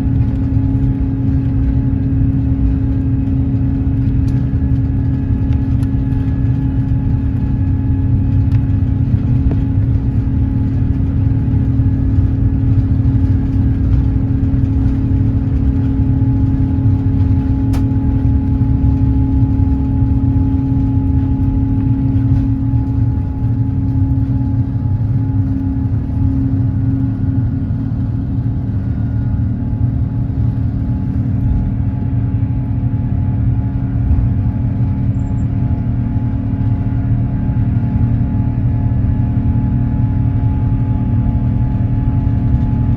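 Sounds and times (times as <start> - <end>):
aircraft cabin rumble and hum: 0.0 - 42.9.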